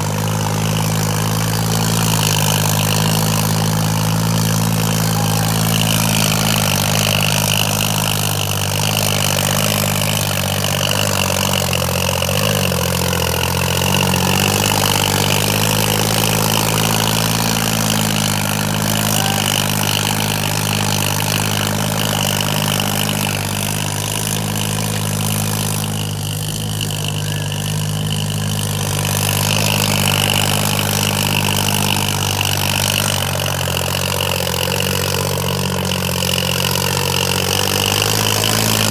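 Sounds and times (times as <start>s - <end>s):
tractor engine under load: 0.0s - 38.9s.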